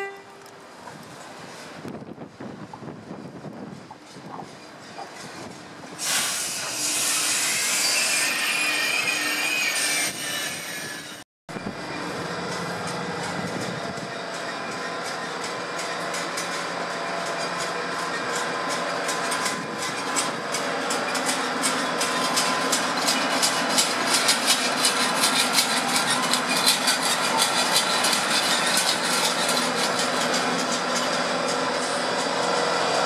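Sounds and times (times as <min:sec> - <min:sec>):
train hum and whine: 0:00.0 - 0:33.0
train wheels clicking over rail joints: 0:00.2 - 0:06.8, 0:11.7 - 0:33.0.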